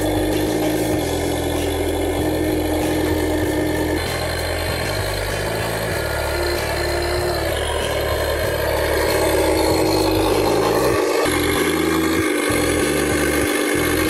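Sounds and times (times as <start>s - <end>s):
simulated engine through speaker: 0.0s - 14.0s.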